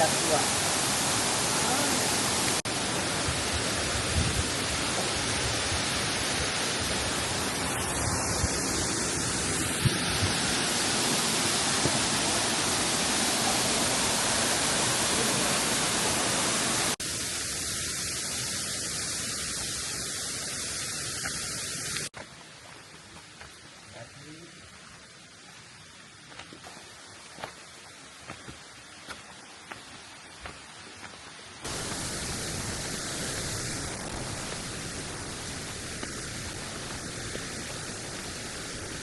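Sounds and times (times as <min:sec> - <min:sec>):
waterfall roaring: 0:00.0 - 0:22.0, 0:28.4 - 0:39.0.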